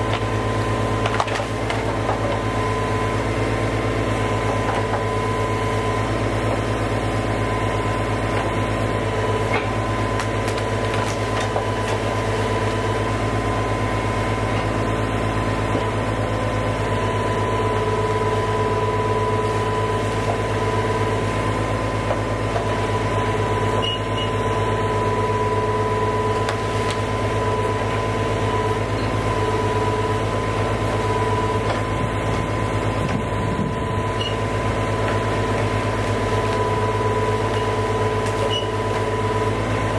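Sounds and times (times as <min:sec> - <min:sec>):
engine running with whine: 0:00.0 - 0:39.9.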